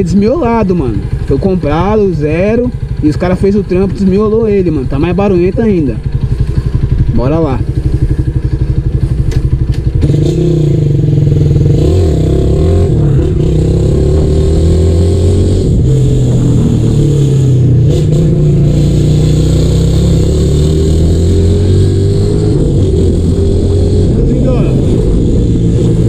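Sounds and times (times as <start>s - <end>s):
loud motorcycle revving: 0.0s - 26.0s.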